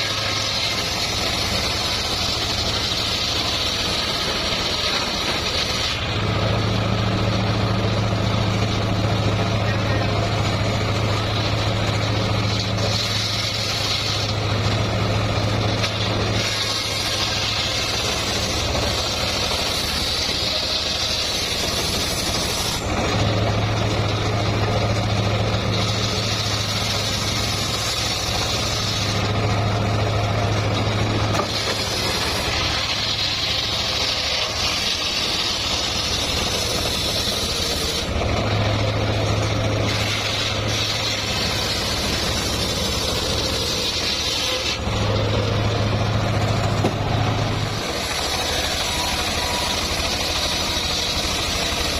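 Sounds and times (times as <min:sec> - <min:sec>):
circular saw cutting log: 0:00.0 - 0:51.9.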